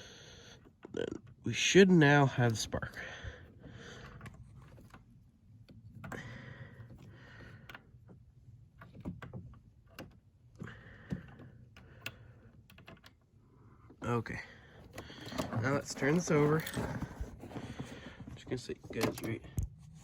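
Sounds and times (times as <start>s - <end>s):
small parts clicking and knocking: 0.0s - 19.9s.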